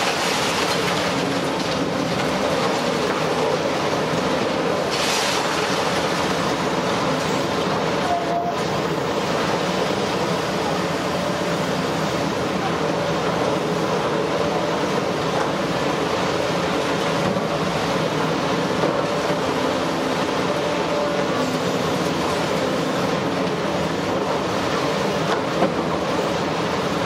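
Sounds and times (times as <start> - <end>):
excavator running: 0.0 - 27.0.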